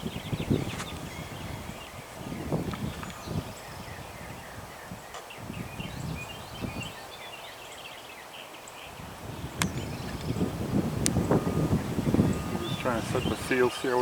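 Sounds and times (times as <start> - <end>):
small birds chirping: 0.0 - 14.0
wind gusts on microphone: 0.0 - 14.0.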